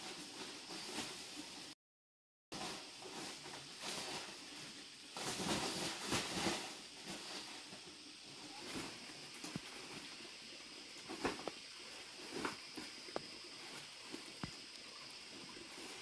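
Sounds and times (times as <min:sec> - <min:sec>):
plastic sack rustling and crinkling: 0:00.0 - 0:01.8, 0:02.5 - 0:14.7, 0:15.3 - 0:16.0.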